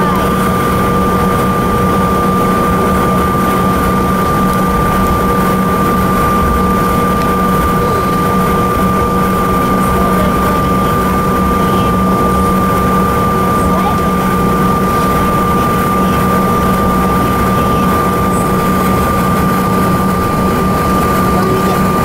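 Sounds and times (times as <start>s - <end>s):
jet cabin engine hum: 0.0s - 22.0s.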